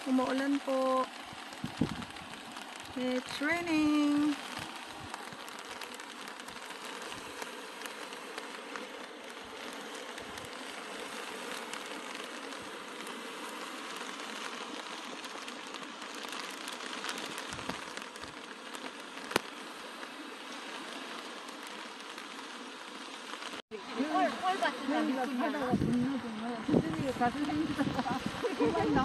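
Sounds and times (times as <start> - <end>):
rain hissing: 0.0 - 29.0
raindrop ticks: 0.0 - 29.0.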